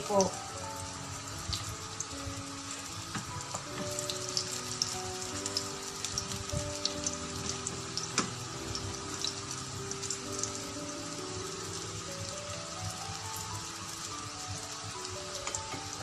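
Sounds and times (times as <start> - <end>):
frying in hot oil: 0.0 - 16.0
soft background music: 0.0 - 16.0.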